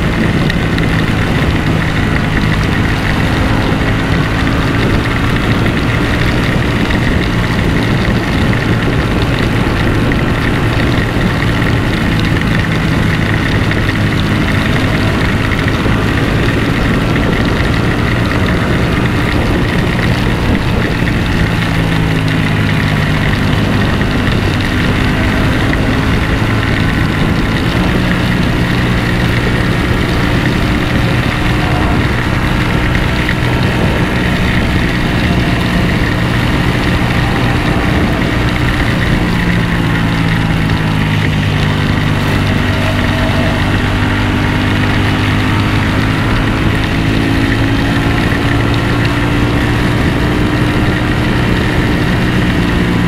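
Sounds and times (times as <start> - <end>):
motorcycle engine running: 0.0 - 53.0
steady rushing noise: 0.0 - 53.0.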